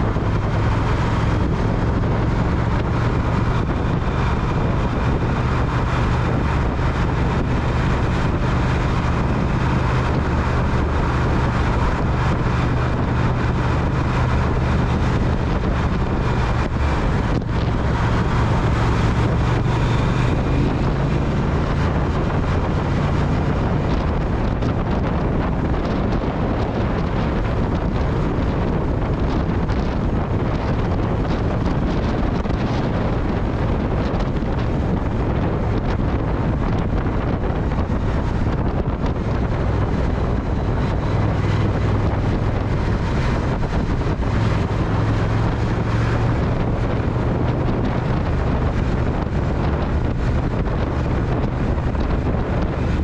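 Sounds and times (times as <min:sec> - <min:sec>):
motorcycle engine cruising: 0:00.0 - 0:53.0
wind buffeting microphone: 0:00.0 - 0:53.0.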